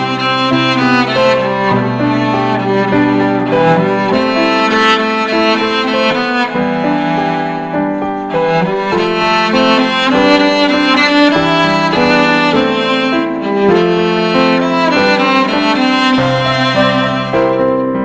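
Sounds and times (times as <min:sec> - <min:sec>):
bowed strings: 0:00.0 - 0:18.0
violin melody: 0:00.0 - 0:18.0.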